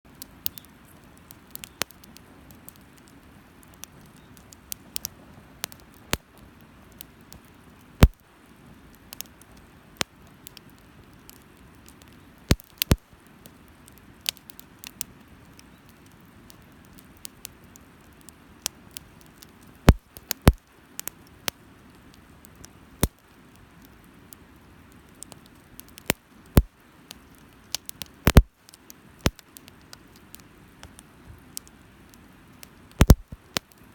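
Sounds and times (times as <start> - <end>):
low steady hiss: 0.0 - 33.9
sharp fire pops: 0.1 - 24.0, 24.9 - 33.9
wood fire crackling: 0.1 - 33.9.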